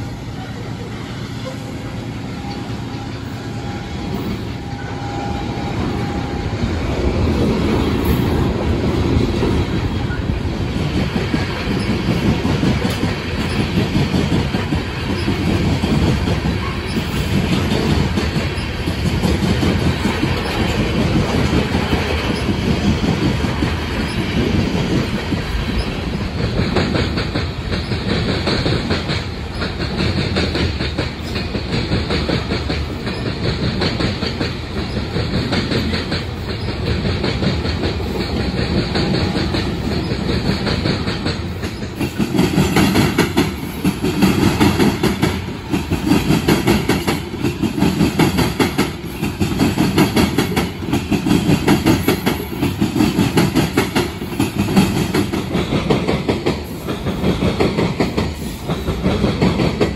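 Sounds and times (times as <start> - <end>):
harsh high rail noise: 0.0 - 59.9
train rumble: 0.0 - 59.9
train wheels clacking over rail joints: 0.0 - 59.9.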